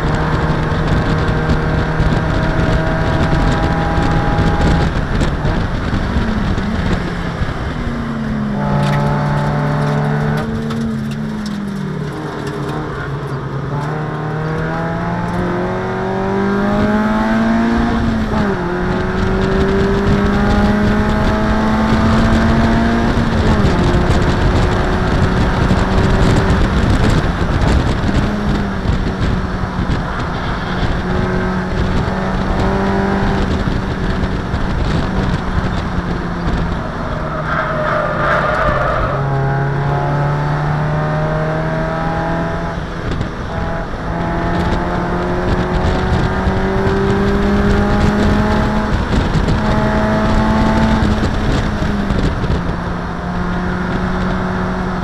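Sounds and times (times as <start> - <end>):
race car engine: 0.0 - 55.0
wind and road noise: 0.0 - 55.0.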